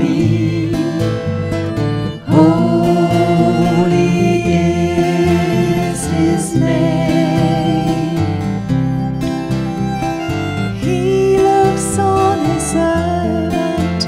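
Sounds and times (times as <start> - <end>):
guitar: 0.0 - 14.0
slow sacred music: 0.0 - 14.0.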